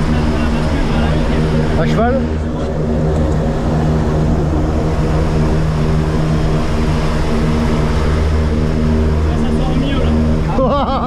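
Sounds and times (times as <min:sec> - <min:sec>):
propeller engine running: 0:00.0 - 0:11.0.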